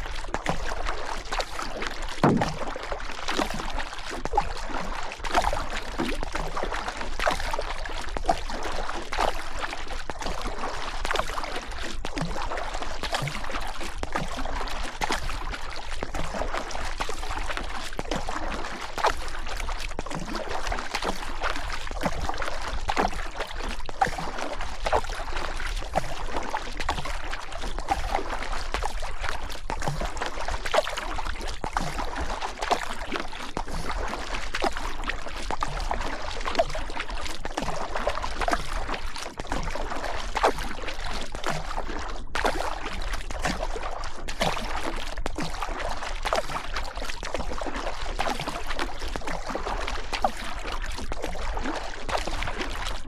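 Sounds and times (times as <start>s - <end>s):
water splashing and gurgling: 0.0s - 53.0s.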